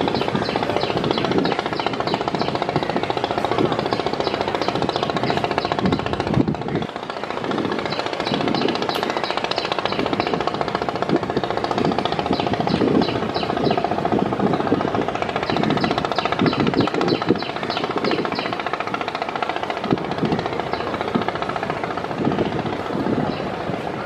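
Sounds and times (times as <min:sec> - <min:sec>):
diesel engine throbbing: 0:00.0 - 0:24.0.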